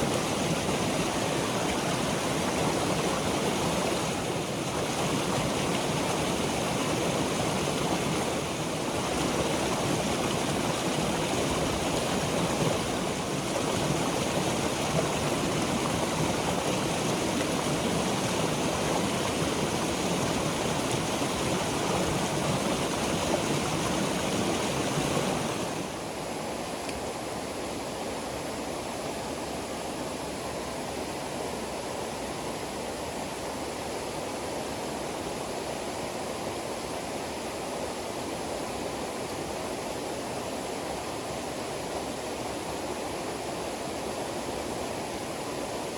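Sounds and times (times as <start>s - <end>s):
water rushing: 0.0s - 45.9s.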